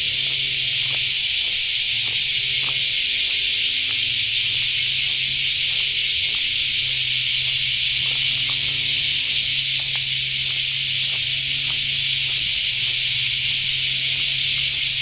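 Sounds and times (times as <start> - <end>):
faint light ticks of footsteps: 0.0 - 15.0.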